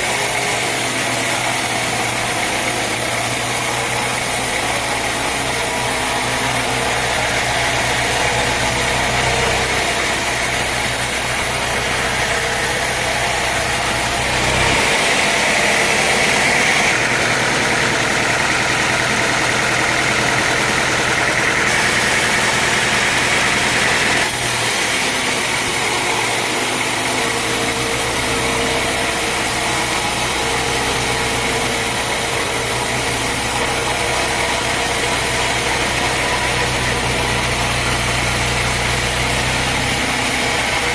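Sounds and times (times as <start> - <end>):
saw cutting through a log: 0.0 - 40.9
sawmill engine running: 0.0 - 40.9.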